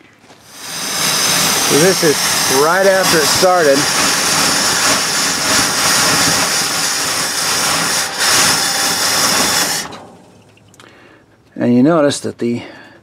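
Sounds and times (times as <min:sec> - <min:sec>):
car engine idling: 0:00.4 - 0:10.8.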